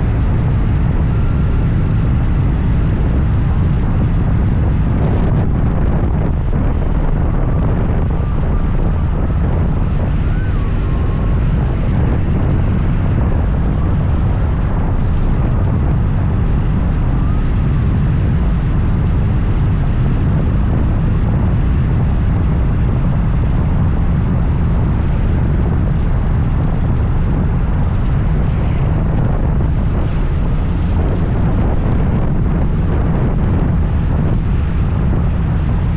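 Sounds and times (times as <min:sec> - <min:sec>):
wind on microphone: 0:00.0 - 0:35.9.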